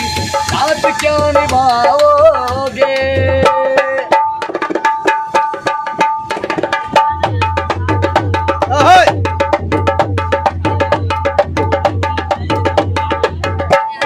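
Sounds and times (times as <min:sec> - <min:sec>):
hand drumming fast rhythm: 0:00.0 - 0:14.0.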